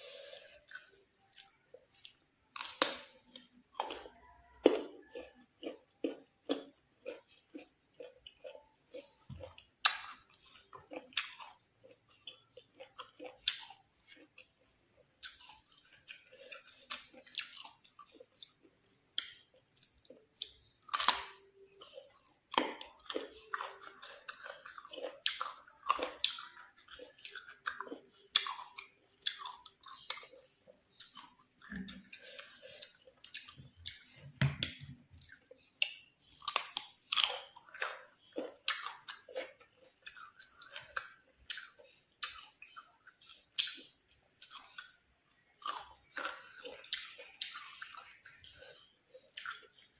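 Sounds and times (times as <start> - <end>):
chewing crisp fruit: 0.0 - 49.9.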